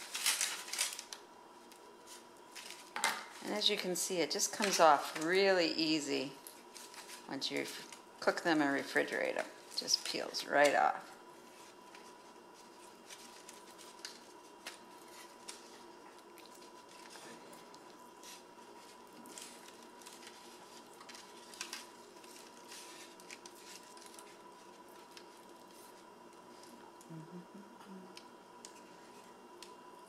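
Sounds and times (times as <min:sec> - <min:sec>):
aluminium foil crinkling: 0:00.0 - 0:26.8.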